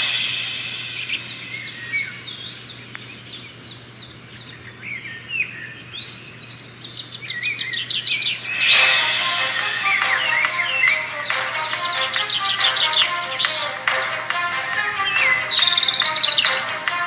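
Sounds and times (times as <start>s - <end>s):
birds whistling calls: 0.0s - 17.0s.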